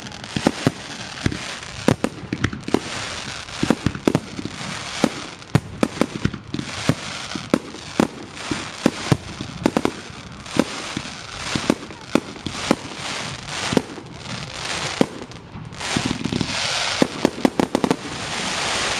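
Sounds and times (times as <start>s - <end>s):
firework bangs: 0.0s - 18.9s
firework hiss and crackle: 0.0s - 18.9s.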